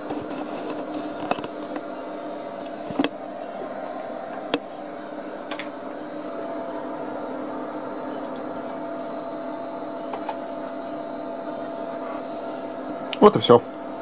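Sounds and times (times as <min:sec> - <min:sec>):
computer fan and hard disk hum: 0:00.0 - 0:14.0.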